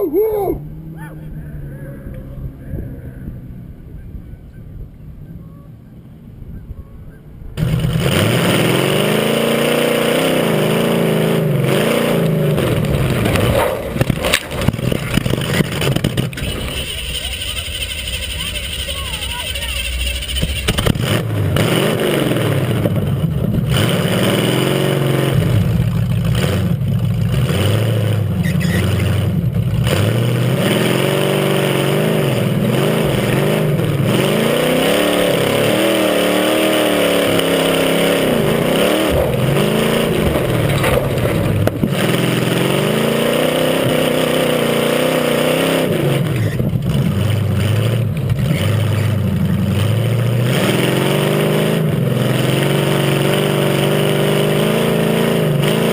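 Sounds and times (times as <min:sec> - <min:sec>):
truck engine revving: 0:00.0 - 0:05.7, 0:07.6 - 0:55.9.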